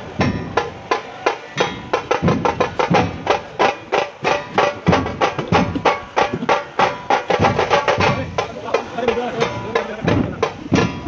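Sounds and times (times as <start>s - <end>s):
music with fast percussion beat: 0.0s - 11.0s.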